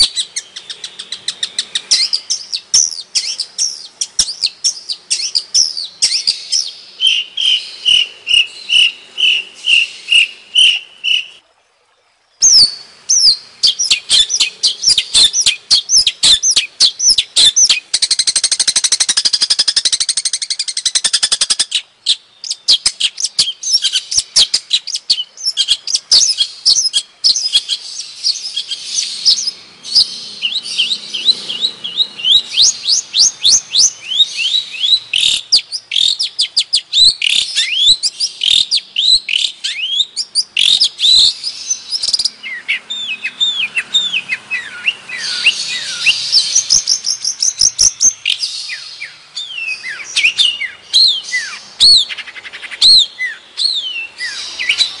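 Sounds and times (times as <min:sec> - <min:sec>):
bird singing chirps and whistles: 0:00.0 - 0:11.4, 0:12.4 - 0:55.0.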